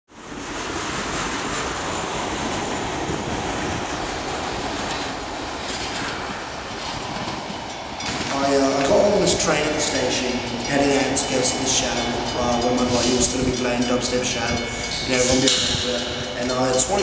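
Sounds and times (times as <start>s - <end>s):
train running on rails: 0.1s - 17.0s.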